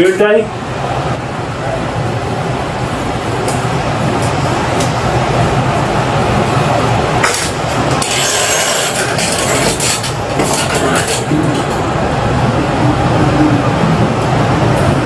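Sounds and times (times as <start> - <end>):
room noise rumble and hiss: 0.0 - 15.0.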